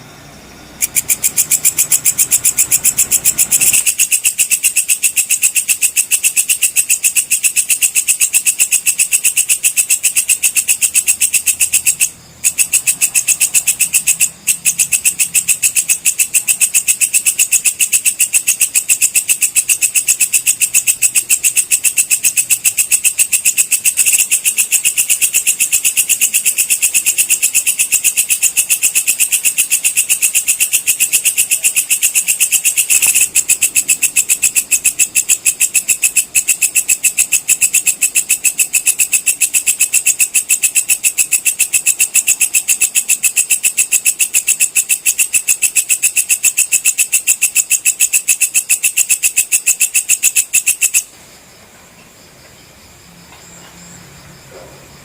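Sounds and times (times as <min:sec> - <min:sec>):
insect clicking chirps: 0:00.8 - 0:51.1.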